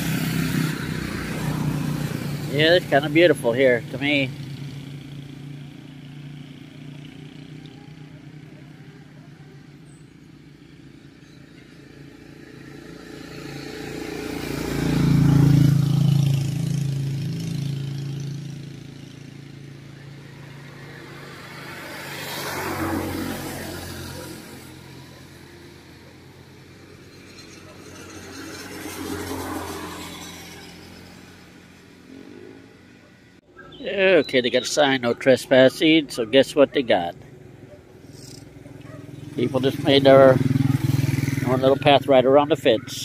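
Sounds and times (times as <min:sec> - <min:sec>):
vehicles passing by: 0:00.0 - 0:43.0.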